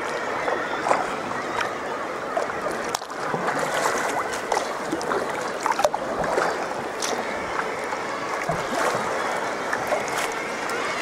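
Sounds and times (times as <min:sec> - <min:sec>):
water lapping around a kayak: 0:00.0 - 0:11.0.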